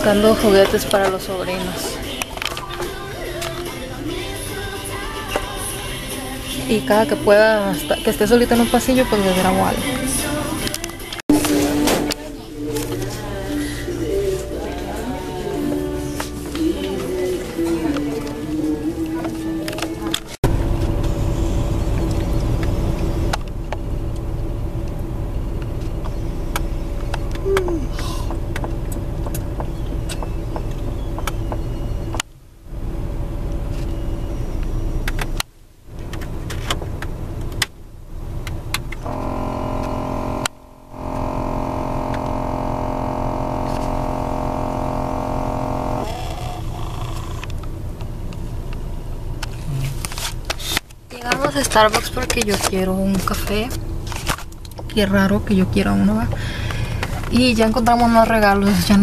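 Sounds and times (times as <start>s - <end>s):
multi-tone hum: 0.0s - 48.0s
car engine idling: 0.0s - 50.5s.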